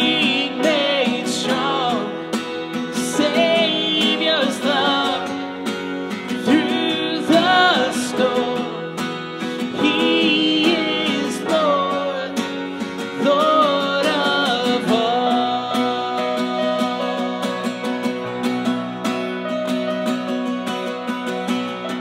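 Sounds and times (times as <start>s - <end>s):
man singing: 0.0s - 18.1s
acoustic guitar strumming: 0.0s - 22.0s
keyboard accompaniment: 0.0s - 22.0s.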